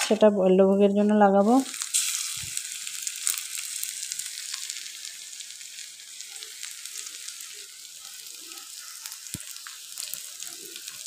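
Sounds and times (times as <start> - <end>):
fritters sizzling in hot oil: 0.0 - 11.0.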